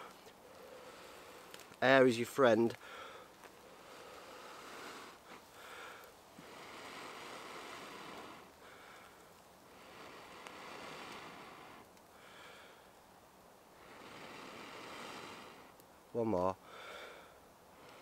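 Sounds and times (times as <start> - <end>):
person drawing breath: 0.0 - 1.7, 2.8 - 12.9, 13.8 - 15.7, 16.6 - 18.0
person blowing steady breaths: 0.0 - 1.8, 2.8 - 13.0, 13.6 - 15.8, 16.6 - 18.0.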